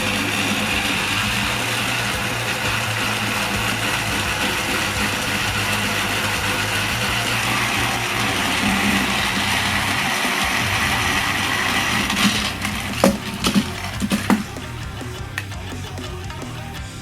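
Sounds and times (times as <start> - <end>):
toy train motors whirring: 0.0 - 14.4.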